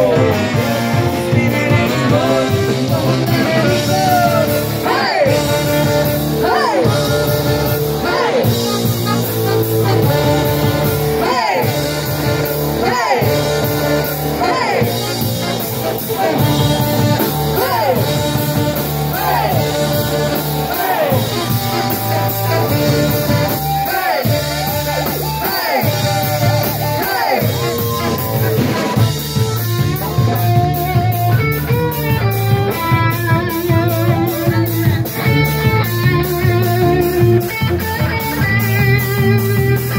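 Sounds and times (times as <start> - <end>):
live brass band music: 0.0 - 39.9
strummed electric guitar: 0.0 - 39.9.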